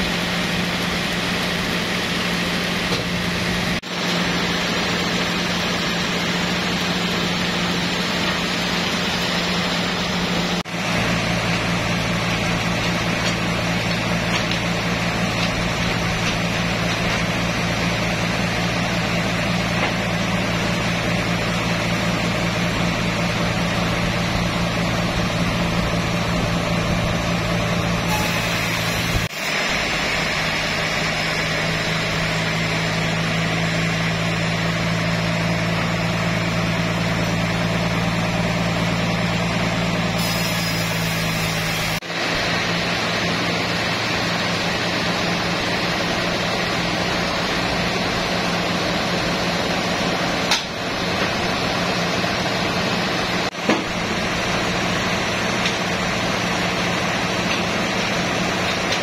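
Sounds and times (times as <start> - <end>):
sawmill machinery hum and hiss: 0.0 - 59.0.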